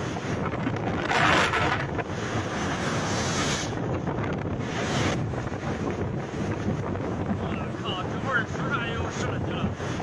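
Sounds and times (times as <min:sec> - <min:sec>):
rushing water: 0:00.0 - 0:10.0
wind buffeting microphone: 0:00.0 - 0:10.0.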